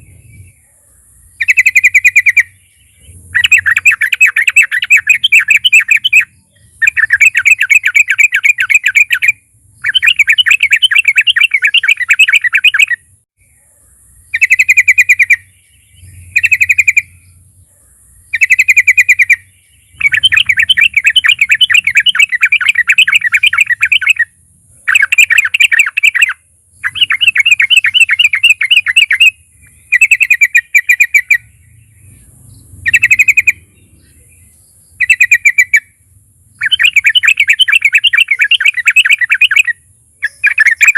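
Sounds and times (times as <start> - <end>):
bird singing chattering phrases: 0.0 - 13.0, 14.2 - 40.9.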